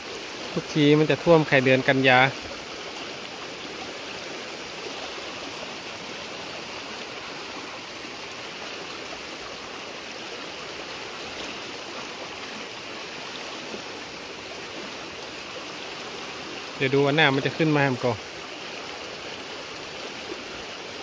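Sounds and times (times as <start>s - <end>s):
flood water rushing: 0.0s - 21.0s.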